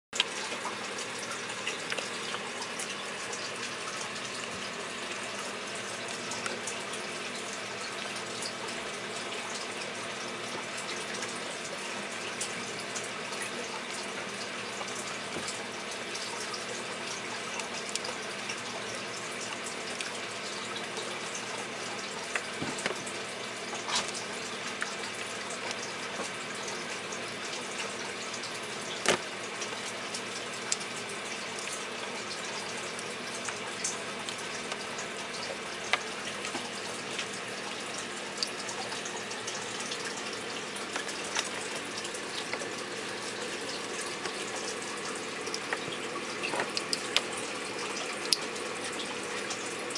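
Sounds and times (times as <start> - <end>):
running water: 0.1 - 49.9.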